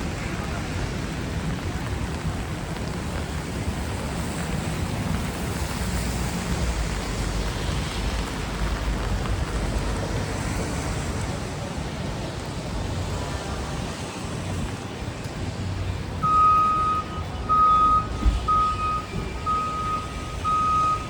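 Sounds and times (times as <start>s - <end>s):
rain hissing: 0.0s - 21.0s
traffic on wet streets: 0.0s - 21.0s.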